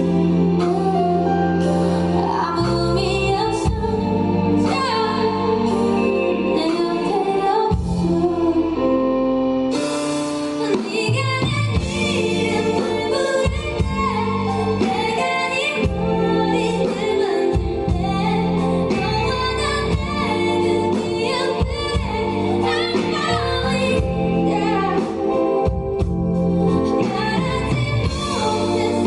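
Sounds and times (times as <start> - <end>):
woman singing: 0.0 - 9.8, 10.4 - 29.0
instrumental accompaniment: 0.0 - 29.0.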